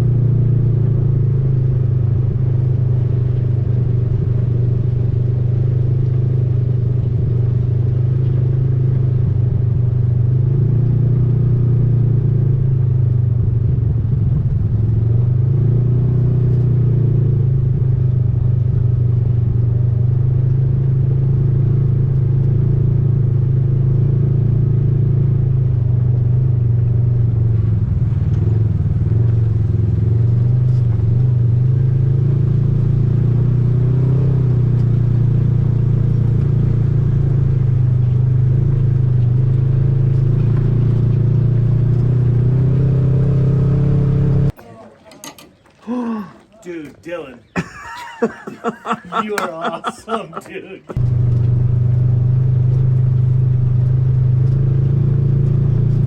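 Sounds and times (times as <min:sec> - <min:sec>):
vehicle engine droning: 0:00.0 - 0:44.6, 0:45.8 - 0:56.0.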